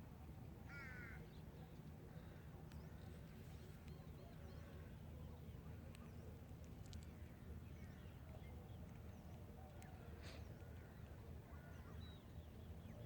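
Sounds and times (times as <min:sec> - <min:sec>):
faint bird calls and chirps: 0:00.7 - 0:13.0.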